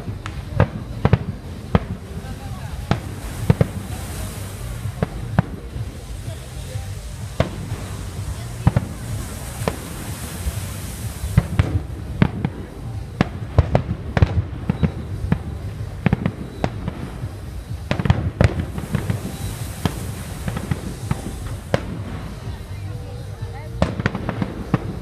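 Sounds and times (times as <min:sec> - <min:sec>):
continuous low rumble: 0:00.0 - 0:25.0
fireworks bangs and pops: 0:00.0 - 0:25.0
high rising hiss: 0:00.0 - 0:25.0.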